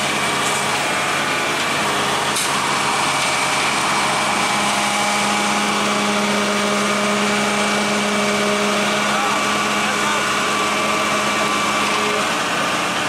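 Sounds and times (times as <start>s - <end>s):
constant hydraulic whine: 0.0s - 13.0s
deeper steady engine note: 0.0s - 13.0s
excavator diesel engines running: 0.0s - 13.0s.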